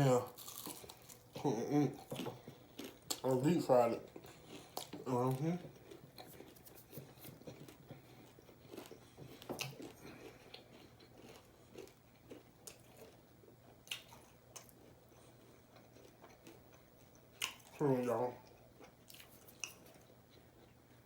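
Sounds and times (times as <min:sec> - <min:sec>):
chewing crunches: 0:00.2 - 0:01.4, 0:02.0 - 0:13.2, 0:13.8 - 0:20.8.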